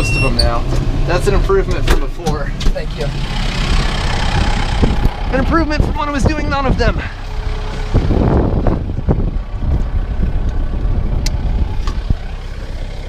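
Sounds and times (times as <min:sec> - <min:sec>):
baler working: 0:00.0 - 0:13.0
tractor engine running: 0:00.0 - 0:13.0.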